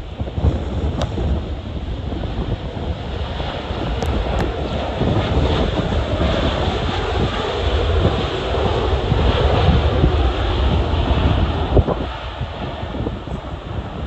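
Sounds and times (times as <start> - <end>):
jet engine roar: 0.0 - 14.0
wind buffeting microphone: 0.0 - 14.0.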